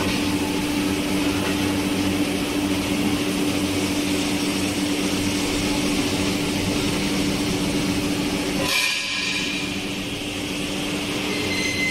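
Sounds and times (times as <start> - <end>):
high machine whine: 0.0 - 11.9
machinery hum with hiss: 0.0 - 11.9.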